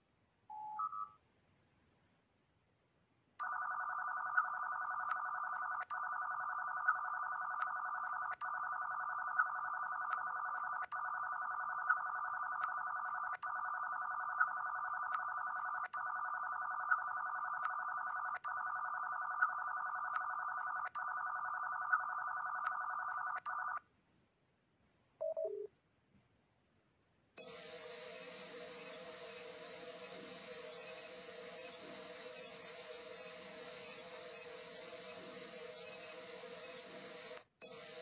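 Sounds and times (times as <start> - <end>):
electronic hum with ticks: 3.4 - 23.8, 27.4 - 38.0
falling computer beep: 3.4 - 23.8, 27.4 - 38.0.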